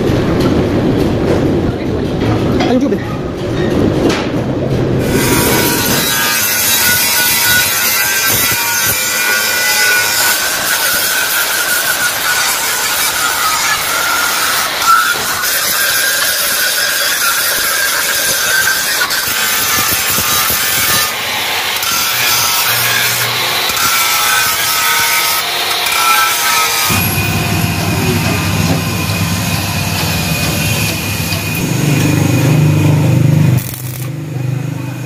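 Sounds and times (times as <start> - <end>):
angle grinder on metal: 5.0 - 35.0.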